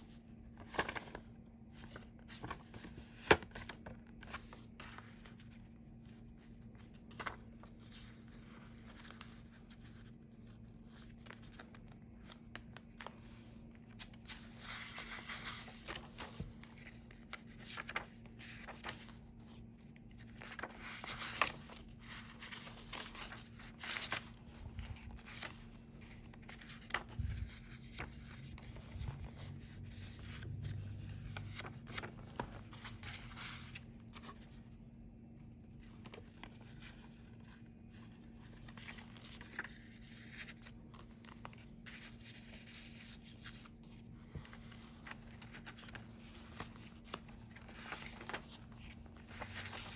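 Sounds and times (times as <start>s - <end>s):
paper pages rustling: 0.0s - 34.7s, 35.7s - 49.9s.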